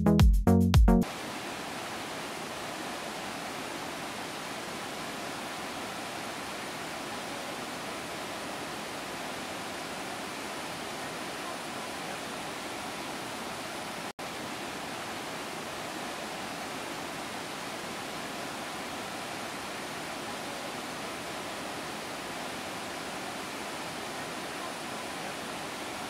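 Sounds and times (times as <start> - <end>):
waterfall rushing: 1.0 - 26.0.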